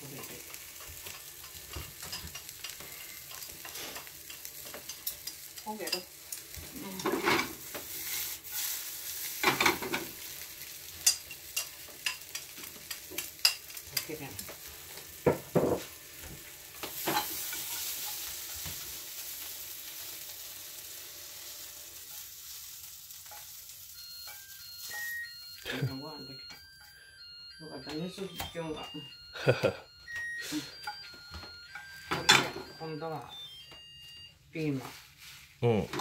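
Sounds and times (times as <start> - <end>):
food sizzling in frying pan: 0.0 - 35.9.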